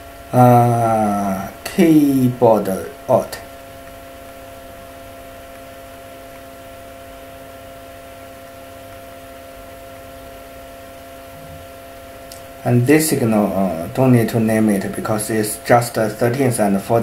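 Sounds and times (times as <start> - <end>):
constant hiss: 0.0 - 17.0
electrical hum: 0.0 - 17.0.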